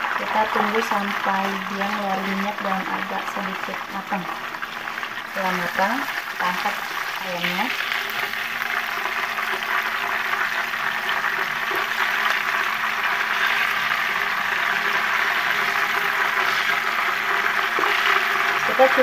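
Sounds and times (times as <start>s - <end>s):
chicken skin sizzling in oil: 0.0s - 19.0s.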